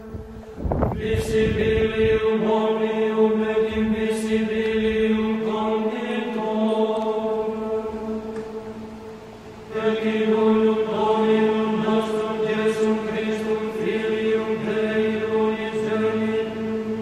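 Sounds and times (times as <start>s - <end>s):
sustained low drone: 0.0s - 17.0s
voices chanting long notes: 0.0s - 17.0s.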